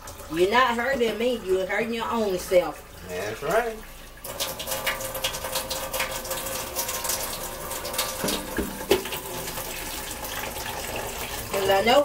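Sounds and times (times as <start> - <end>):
water pouring and splashing in sink: 0.0 - 12.0.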